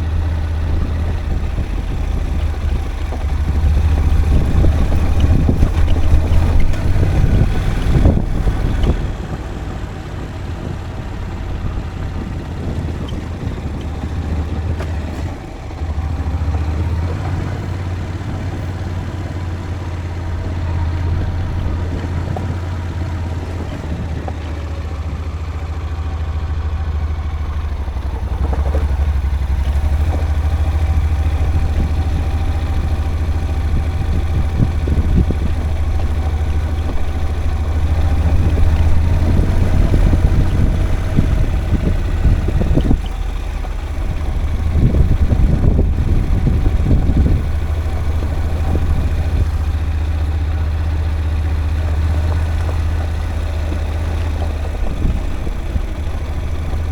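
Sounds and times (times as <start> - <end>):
engine running with deep hum: 0.0 - 56.9
rattling and clatter: 0.0 - 56.9.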